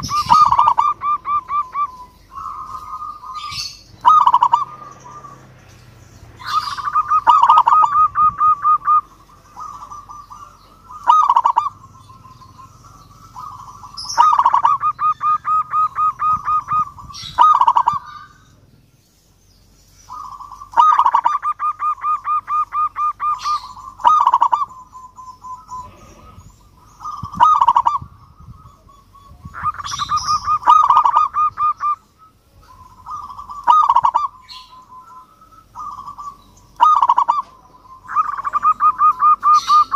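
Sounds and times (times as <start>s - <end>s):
dove cooing: 0.0s - 18.6s, 20.0s - 39.9s.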